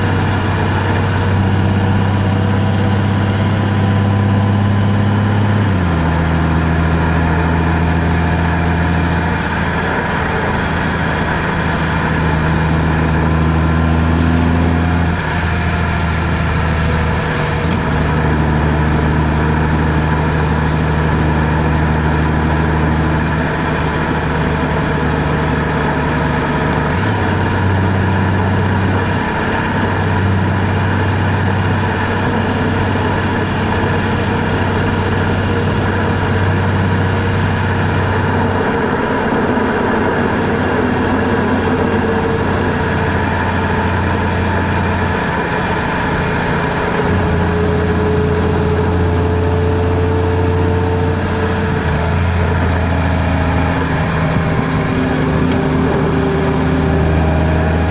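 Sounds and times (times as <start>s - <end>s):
car engine hum: 0.0s - 57.9s
road noise: 0.0s - 57.9s.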